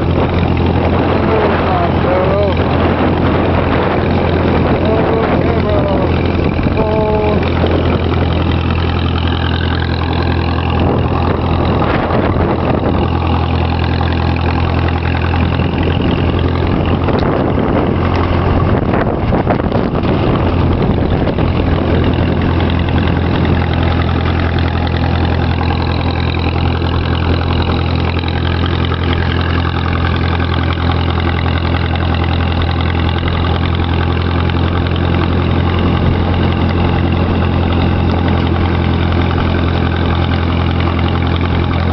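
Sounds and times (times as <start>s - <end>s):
tractor engine droning: 0.0s - 41.9s.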